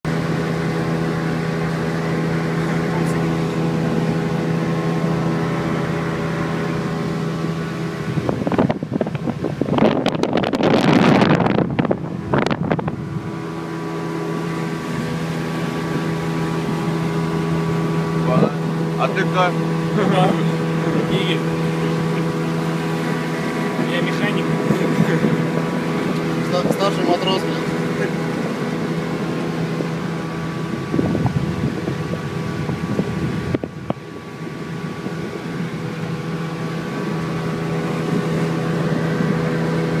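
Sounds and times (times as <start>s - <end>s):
airboat engine and propeller: 0.0s - 40.0s
wind noise on microphone: 2.4s - 19.0s, 20.1s - 40.0s.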